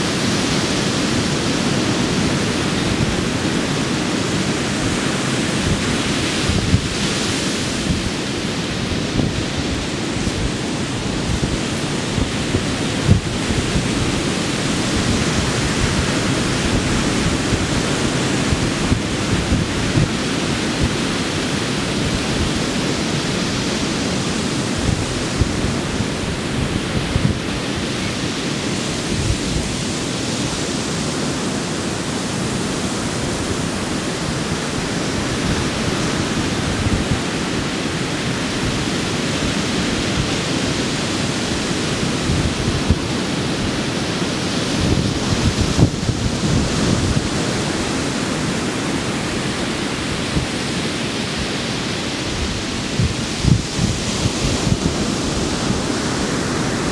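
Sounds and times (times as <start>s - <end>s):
waves breaking on beach: 0.0s - 56.9s
wind buffeting microphone: 0.0s - 56.9s.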